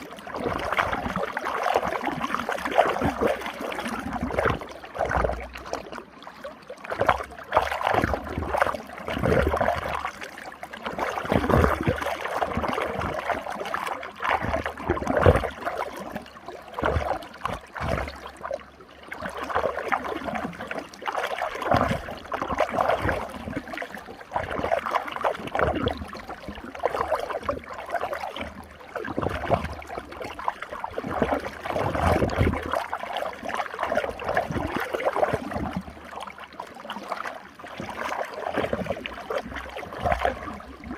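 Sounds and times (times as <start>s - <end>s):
low sloshing thumps: 0.0s - 6.1s, 6.8s - 18.6s, 19.2s - 36.3s, 37.6s - 40.9s
water swirling and gurgling: 0.0s - 40.9s.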